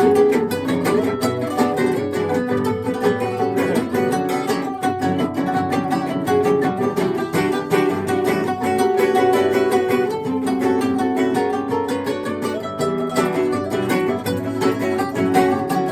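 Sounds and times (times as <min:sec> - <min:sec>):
acoustic guitars playing: 0:00.0 - 0:15.9.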